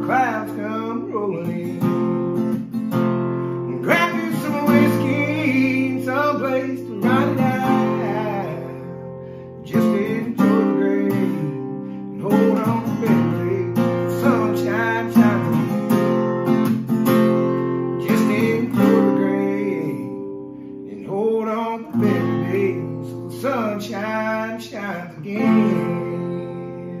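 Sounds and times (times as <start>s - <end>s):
man singing: 0.0s - 2.6s, 3.4s - 16.5s, 17.4s - 27.0s
acoustic guitar strumming: 0.0s - 27.0s.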